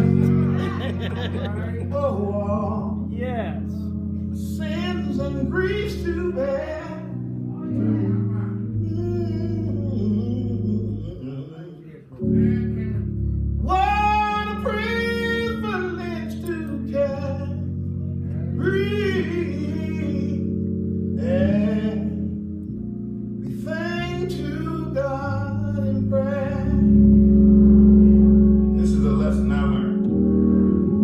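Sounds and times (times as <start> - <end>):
man singing a hymn: 0.0 - 3.1, 4.3 - 22.5, 23.4 - 27.2, 28.8 - 30.1
organ chords: 0.0 - 31.0.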